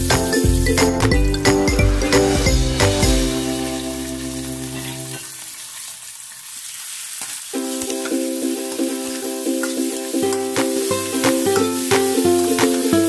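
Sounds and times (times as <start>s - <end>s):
background music: 0.0s - 5.2s, 7.6s - 13.0s
ribs sizzling in hot oil: 0.0s - 13.0s.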